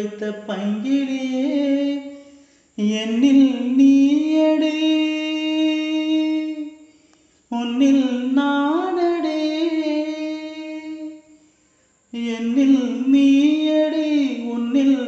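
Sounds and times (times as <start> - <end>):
solo voice singing held notes: 0.0 - 6.9, 7.5 - 11.5, 12.1 - 15.0.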